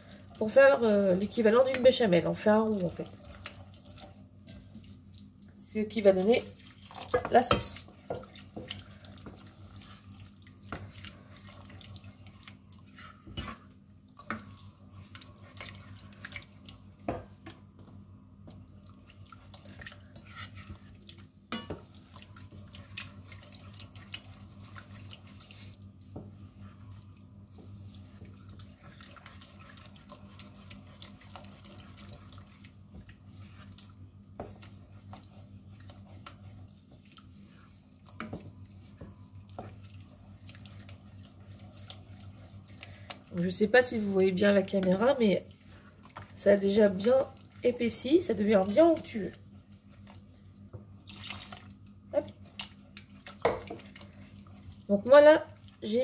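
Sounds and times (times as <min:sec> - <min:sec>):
wooden spoon stirring sauce: 0:00.0 - 0:56.0.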